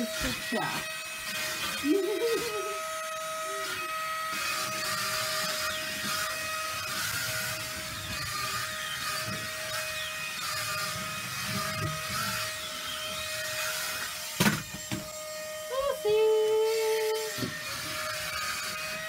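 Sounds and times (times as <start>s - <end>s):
toy car fan whining: 0.0s - 19.0s.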